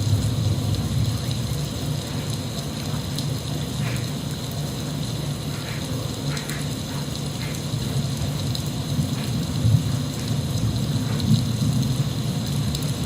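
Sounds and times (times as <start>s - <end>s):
faint drips: 0.0s - 13.0s
steady rain falling: 0.0s - 13.0s.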